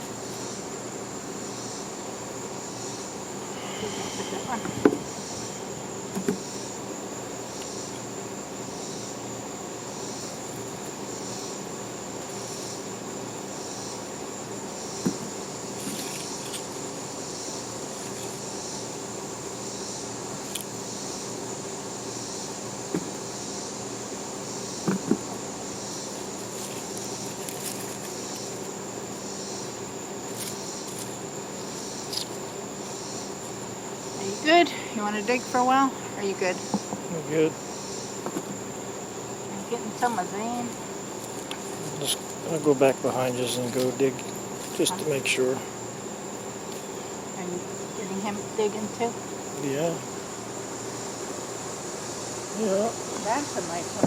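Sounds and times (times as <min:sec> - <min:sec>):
insects chirping: 0:00.0 - 0:54.0
soft pulsing insect call: 0:00.0 - 0:54.0.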